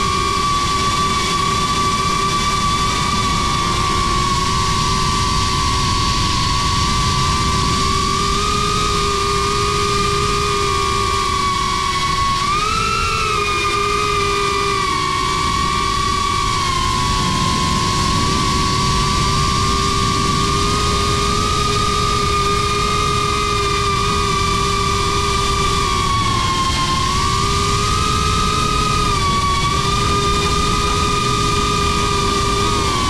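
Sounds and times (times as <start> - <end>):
drone whining in flight: 0.0 - 33.0
low rumble of air noise: 0.0 - 33.0.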